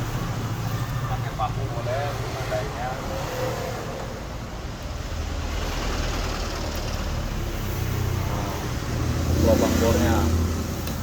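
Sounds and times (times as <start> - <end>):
even background noise: 0.0 - 11.0.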